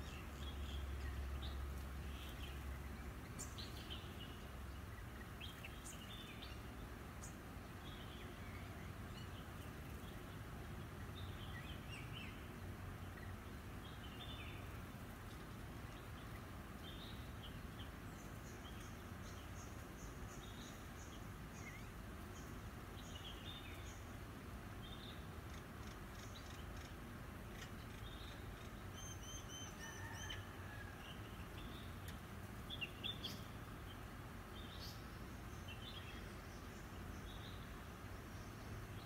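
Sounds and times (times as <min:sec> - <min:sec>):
low background noise: 0:00.0 - 0:39.0
small birds chirping: 0:00.0 - 0:39.0.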